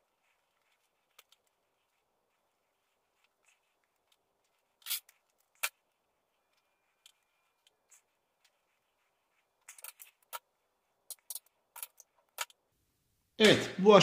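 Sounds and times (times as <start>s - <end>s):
thread rustling and ticking: 0.0s - 12.8s.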